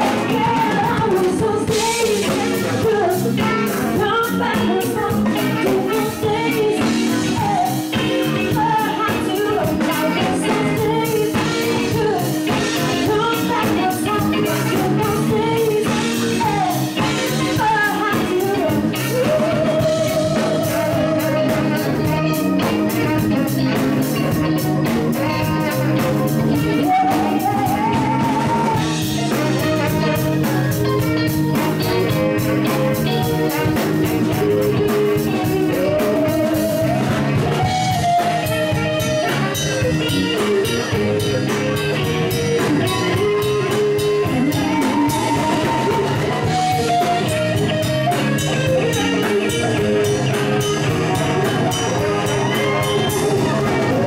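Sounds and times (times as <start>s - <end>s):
woman singing into a microphone: 0.0s - 23.3s, 26.4s - 30.3s, 33.6s - 54.0s
drum kit: 0.0s - 54.0s
electric bass: 0.0s - 54.0s
electric guitar: 0.0s - 54.0s.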